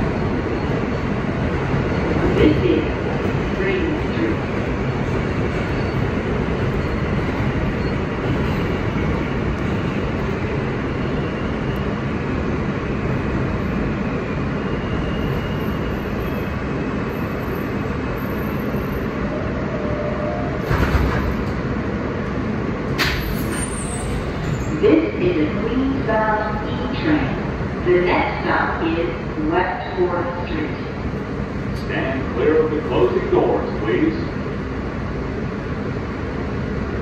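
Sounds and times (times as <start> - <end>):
subway wheels rumbling on rail: 0.0 - 37.0.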